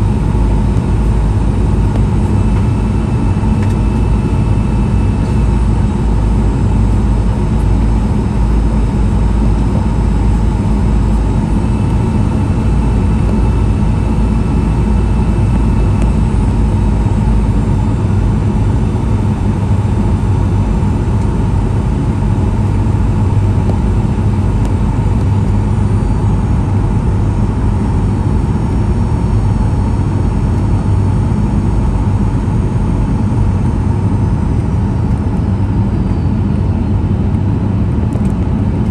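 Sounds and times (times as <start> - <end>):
airplane cabin rumble: 0.0 - 38.9
faint constant hum: 0.0 - 38.9.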